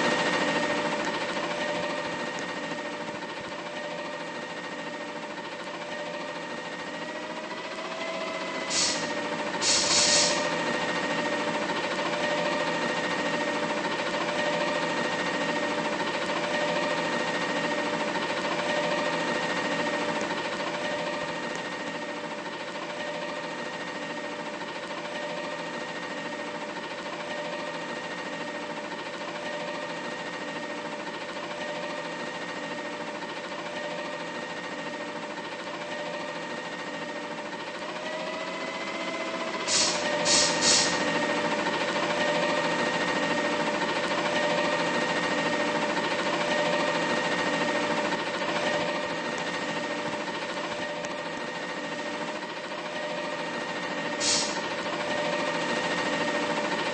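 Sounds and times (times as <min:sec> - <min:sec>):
heavy truck engine droning: 0:00.0 - 0:56.9.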